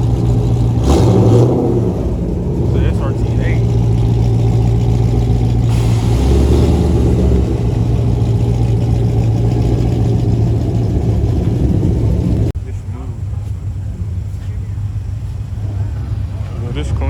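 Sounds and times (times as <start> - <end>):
car exhaust rumbling: 0.0 - 17.0.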